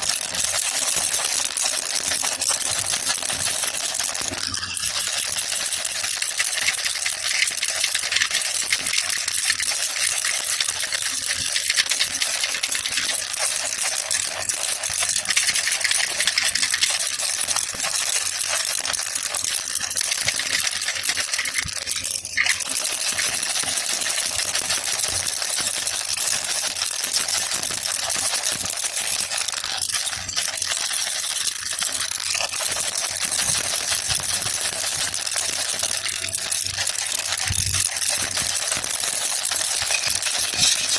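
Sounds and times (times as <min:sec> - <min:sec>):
baby rattle shaking: 0:00.0 - 0:40.9.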